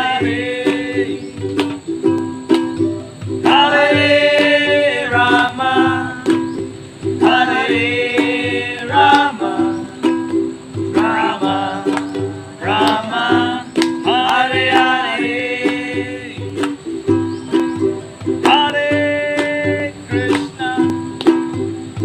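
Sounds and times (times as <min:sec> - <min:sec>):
person chanting: 0:00.0 - 0:01.5, 0:02.6 - 0:16.7, 0:17.5 - 0:22.0
light percussion beat: 0:00.0 - 0:22.0
strummed plucked strings: 0:00.0 - 0:22.0.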